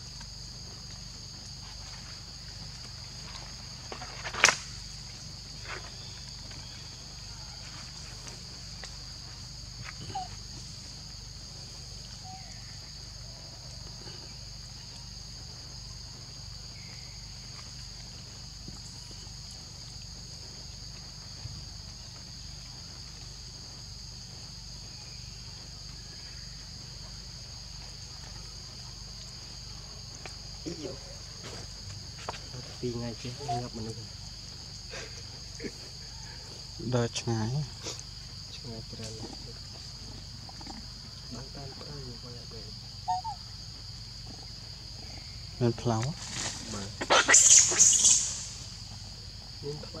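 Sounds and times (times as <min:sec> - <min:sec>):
insects chorus: 0:00.0 - 0:50.0.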